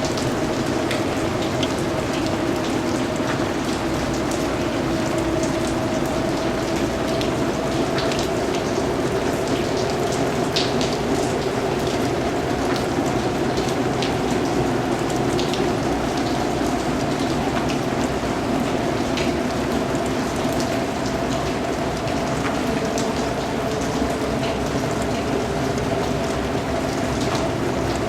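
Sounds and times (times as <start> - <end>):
rain falling: 0.0 - 28.0
raindrops pattering: 0.0 - 28.0.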